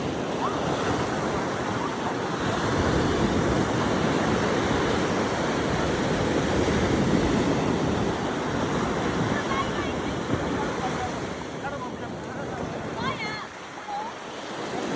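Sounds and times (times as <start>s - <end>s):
ocean waves breaking on beach: 0.0s - 14.9s.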